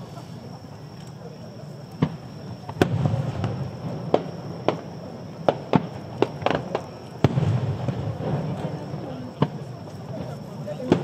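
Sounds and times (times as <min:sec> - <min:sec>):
firework shells bursting: 0:01.9 - 0:11.0.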